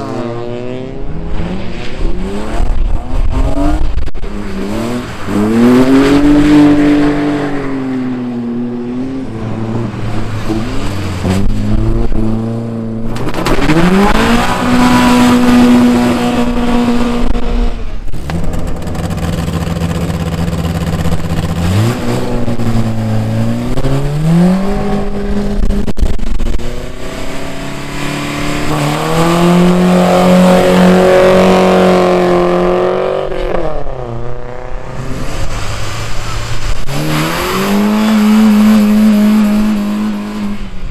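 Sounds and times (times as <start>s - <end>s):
racing engines revving: 0.0s - 40.9s.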